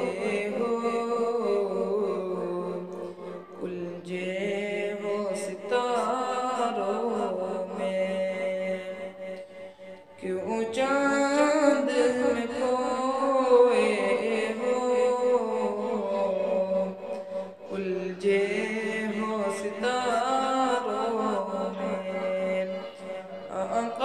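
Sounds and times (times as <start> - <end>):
person singing: 0.0 - 24.0.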